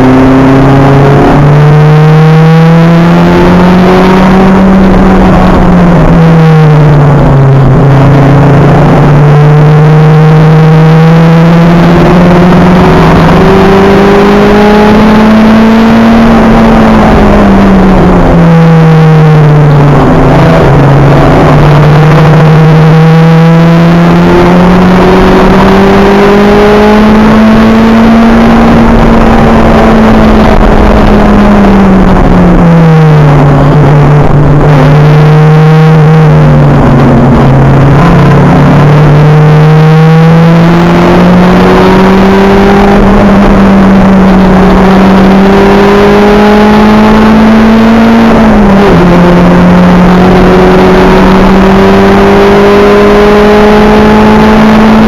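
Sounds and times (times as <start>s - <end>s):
race car engine at full throttle: 0.0s - 55.0s
road and wind noise: 0.0s - 55.0s.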